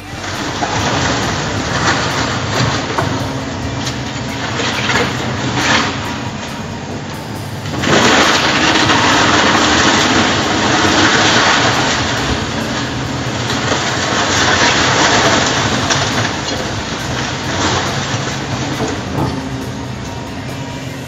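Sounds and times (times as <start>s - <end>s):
excavator diesel engine under load: 0.0s - 21.0s
timber cracking and clattering: 0.2s - 20.8s.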